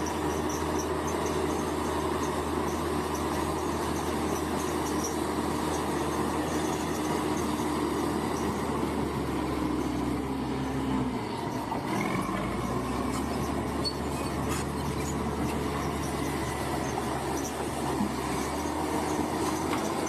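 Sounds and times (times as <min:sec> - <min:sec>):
bulldozer diesel engine running: 0:00.0 - 0:20.0
bulldozer track noise: 0:00.0 - 0:20.0.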